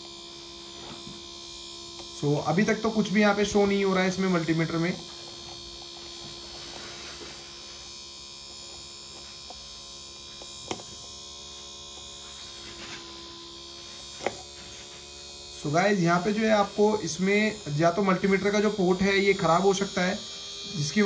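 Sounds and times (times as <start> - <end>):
small electric motor humming: 0.0 - 21.0.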